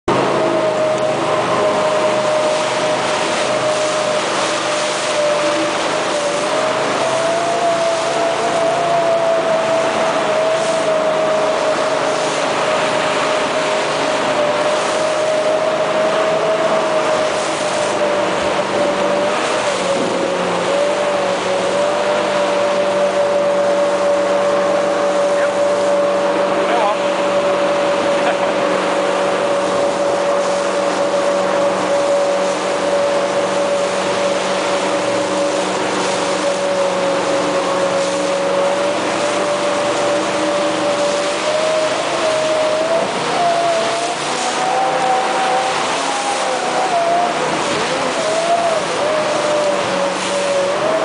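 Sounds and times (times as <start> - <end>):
jetboat engine whine: 0.0 - 51.0
rushing river water: 0.1 - 51.0.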